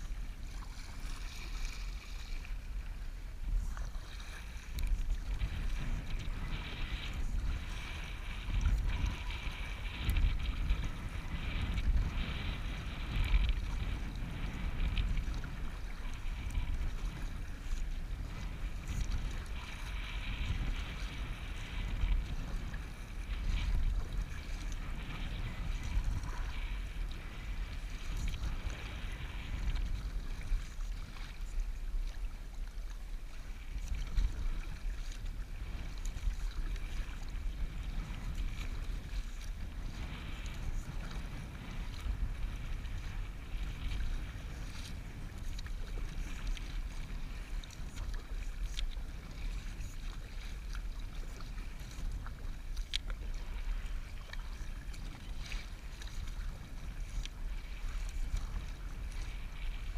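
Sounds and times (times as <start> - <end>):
water splashing against kayak: 0.0 - 59.9
wind buffeting microphone: 0.0 - 59.9.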